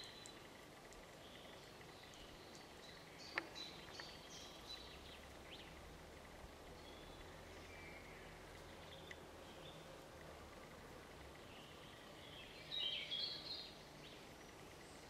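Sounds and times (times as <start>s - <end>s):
faint low hum: 0.0s - 15.0s
songbirds chirping: 0.0s - 15.0s.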